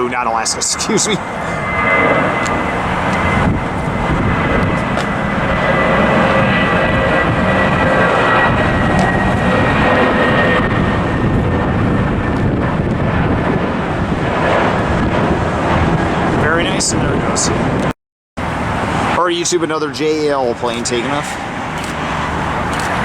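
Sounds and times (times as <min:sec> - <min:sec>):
jet engines roaring with whine: 0:00.0 - 0:23.0.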